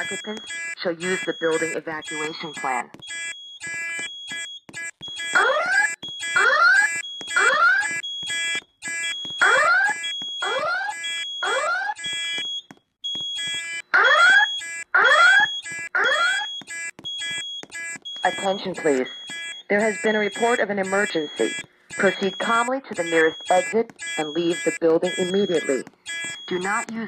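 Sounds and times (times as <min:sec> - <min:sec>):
rapid high-pitched pulsing beep: 0:00.0 - 0:12.5, 0:15.4 - 0:27.0
fire alarm rising whoops: 0:00.0 - 0:26.8.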